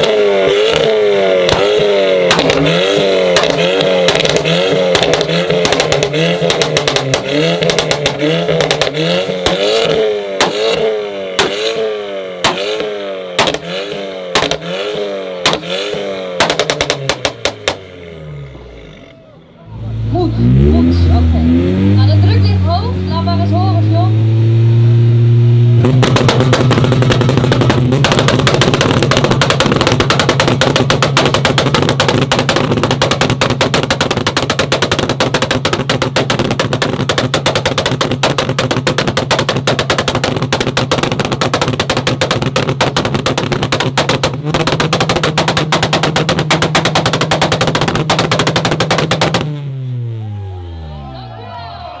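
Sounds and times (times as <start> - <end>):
exhaust pops and bangs: 0.0 - 18.1, 25.7 - 50.2
car engine held at rev limiter: 0.0 - 51.0.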